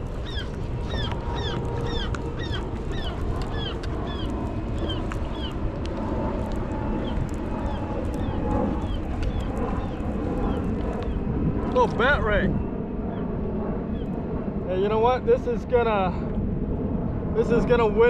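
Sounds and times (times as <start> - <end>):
wind and surf: 0.0 - 18.0.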